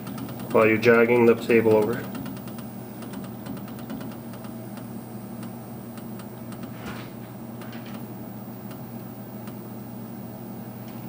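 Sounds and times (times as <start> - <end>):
machine steady hum: 0.0 - 11.0
mill table drive clicking: 0.0 - 11.0.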